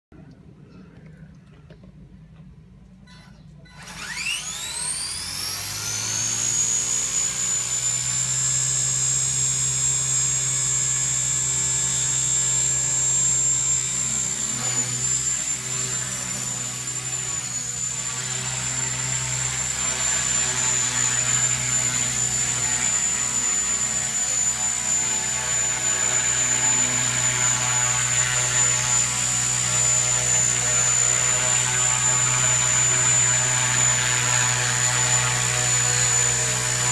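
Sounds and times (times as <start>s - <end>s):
model helicopter high whine: 3.8s - 36.9s
rotor drone: 3.8s - 36.9s.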